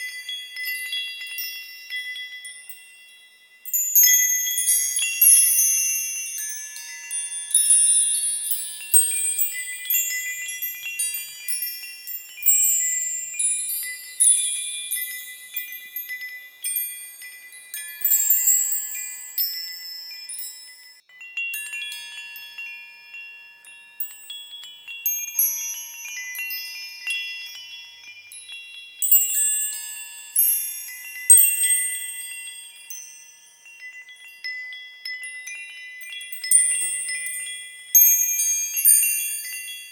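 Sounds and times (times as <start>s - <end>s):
small bells tinkling: 0.0s - 39.9s.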